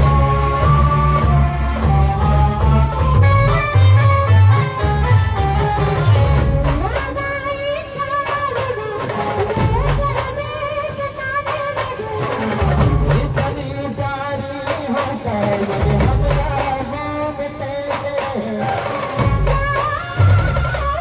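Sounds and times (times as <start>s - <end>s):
heavy drumming: 0.0s - 21.0s.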